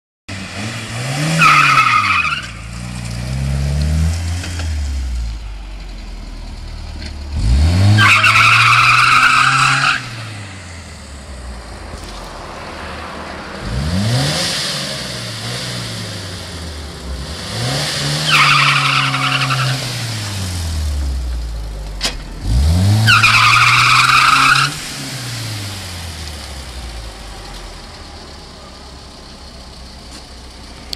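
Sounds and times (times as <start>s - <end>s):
car engine revving: 0.3s - 29.8s.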